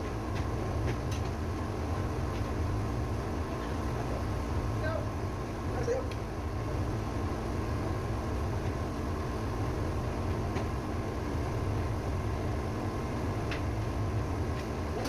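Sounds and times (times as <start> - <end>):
faint steady whine: 0.0 - 15.0
ship engine room drone: 0.0 - 15.0.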